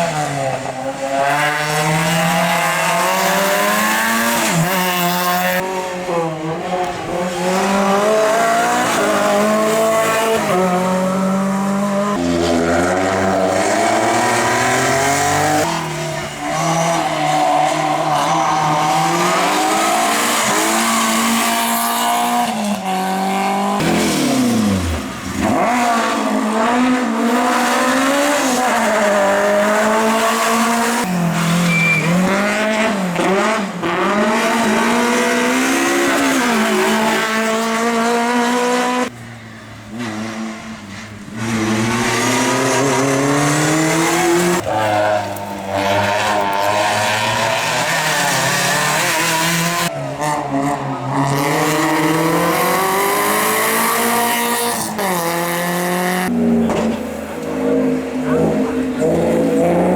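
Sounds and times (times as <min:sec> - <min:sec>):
race car engines revving hard: 0:00.0 - 0:59.9.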